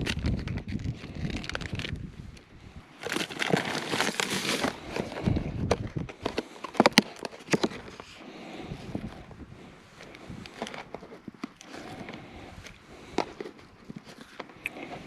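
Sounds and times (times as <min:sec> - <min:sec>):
plastic packaging rustling: 0:00.0 - 0:09.3, 0:10.0 - 0:15.0.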